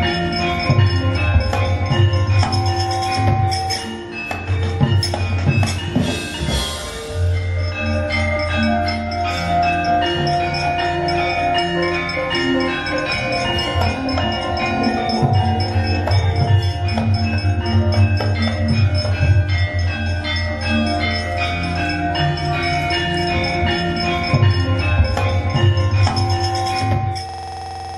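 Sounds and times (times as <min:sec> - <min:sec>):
gamelan metallophones and gongs: 0:00.0 - 0:27.9.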